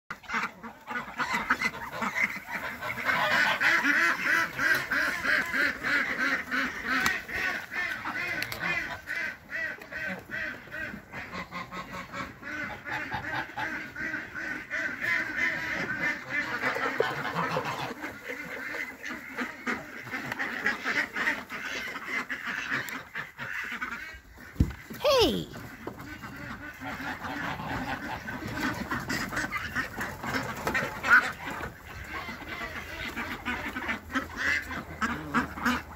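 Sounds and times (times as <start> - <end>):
ducks quacking: 0.1 - 35.9.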